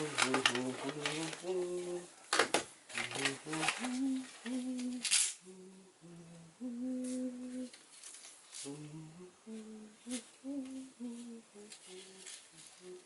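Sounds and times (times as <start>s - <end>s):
man humming a tune: 0.0s - 2.1s, 3.0s - 7.8s, 8.6s - 13.0s.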